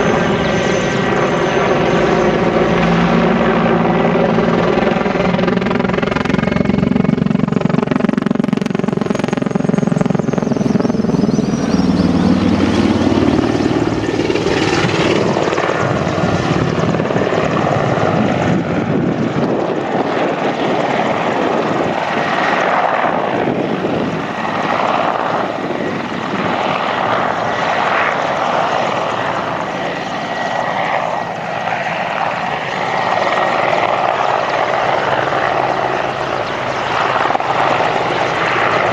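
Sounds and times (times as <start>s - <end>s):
helicopter engines: 0.0s - 38.9s
helicopter rotor beat: 0.0s - 38.9s.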